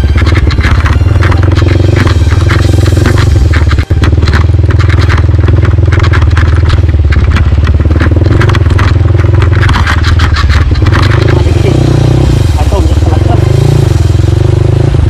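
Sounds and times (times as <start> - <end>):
motorcycle engine running: 0.0 - 15.0
rapid clatter and scraping: 0.0 - 15.0.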